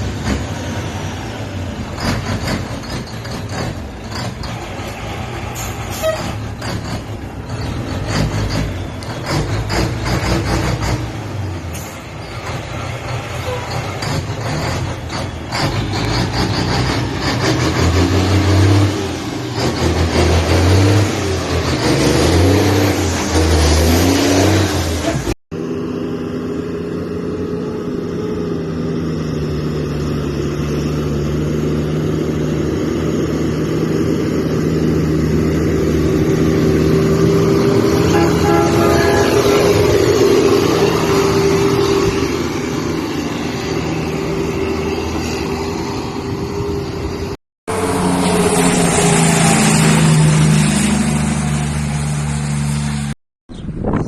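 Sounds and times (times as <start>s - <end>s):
steady engine drone: 0.0s - 53.2s.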